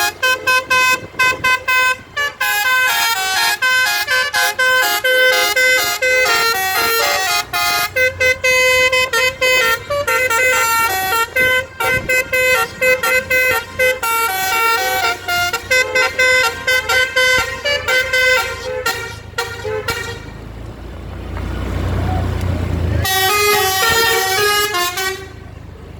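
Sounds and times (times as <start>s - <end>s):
bus multi-tone horn playing tune: 0.0s - 20.6s, 23.0s - 25.6s
low engine rumble: 0.0s - 25.9s.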